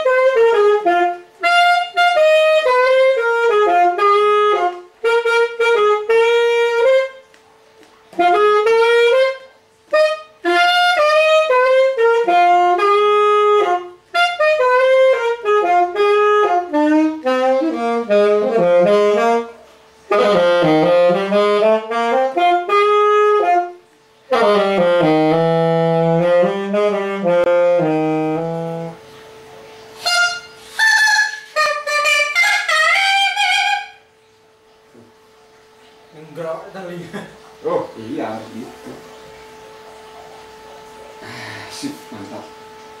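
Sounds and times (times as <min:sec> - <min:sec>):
alto saxophone melody: 0:00.0 - 0:43.0.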